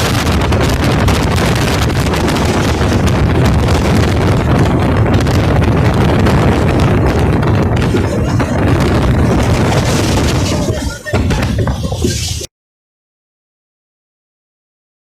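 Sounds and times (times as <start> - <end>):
moving train rumbling: 0.0 - 12.5
wind buffeting microphone: 0.0 - 12.5.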